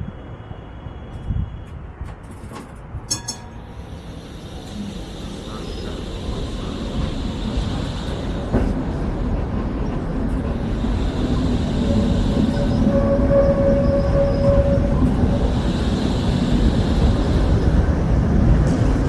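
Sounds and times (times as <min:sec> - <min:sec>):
tram running along track: 0:00.0 - 0:19.0.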